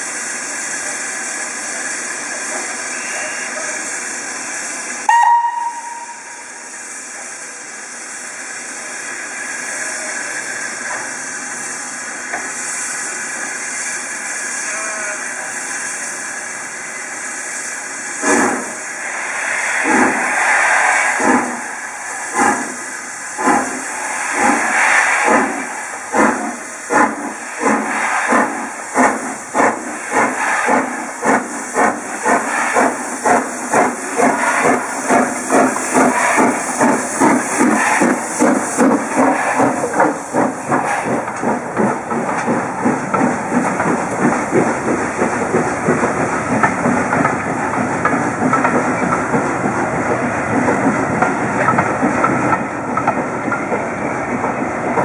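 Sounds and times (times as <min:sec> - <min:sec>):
steady hiss of steam: 0:00.0 - 0:55.0
steam locomotive exhaust chuffs: 0:00.0 - 0:55.0.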